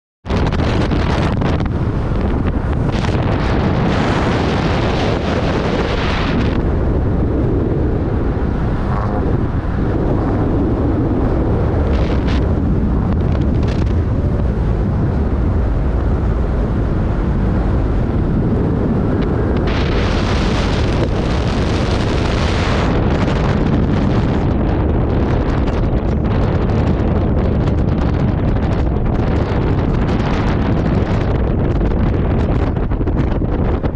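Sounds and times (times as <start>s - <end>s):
wind buffeting microphone: 0.2s - 33.9s.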